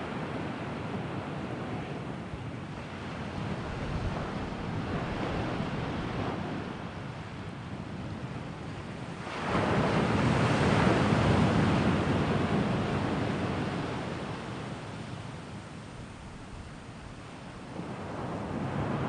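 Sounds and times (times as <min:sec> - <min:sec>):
sea waves washing against shore: 0:00.0 - 0:19.0.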